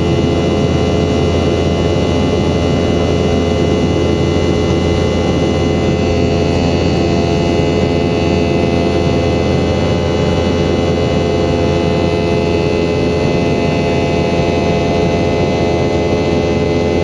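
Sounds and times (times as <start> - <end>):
jet cabin engine hum: 0.0 - 17.0.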